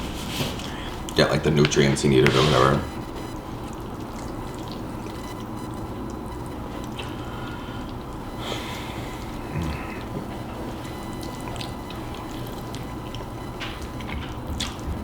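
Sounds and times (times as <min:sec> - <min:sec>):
wet chewing and mouth sounds: 0:00.0 - 0:15.0.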